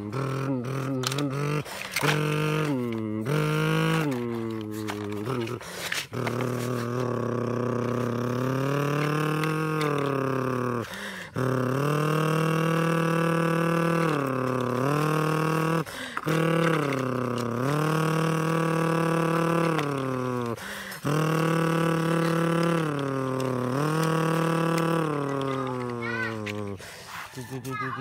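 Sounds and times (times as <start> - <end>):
person imitating truck engine: 0.0 - 28.0.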